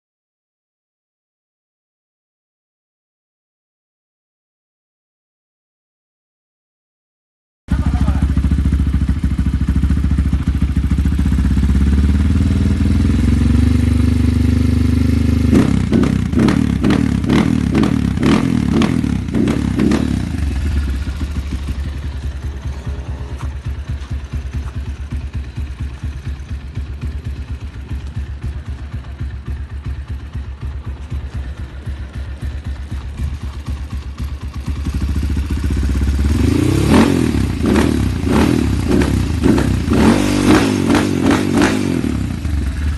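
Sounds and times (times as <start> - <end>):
motorcycle engine revving: 7.7 - 42.9.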